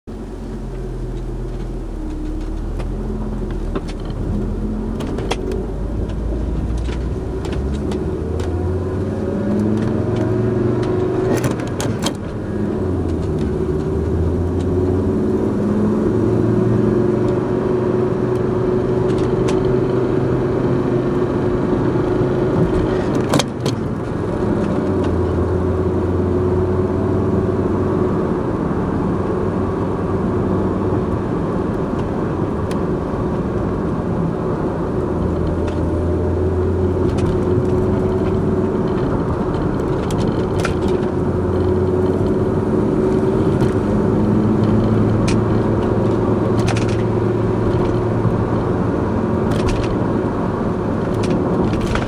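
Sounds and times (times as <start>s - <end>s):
car engine hum: 0.1s - 52.0s.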